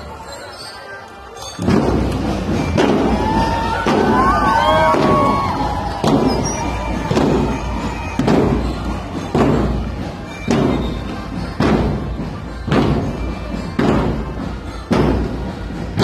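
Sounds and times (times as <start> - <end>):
marching bass drums beating: 1.6 - 16.0.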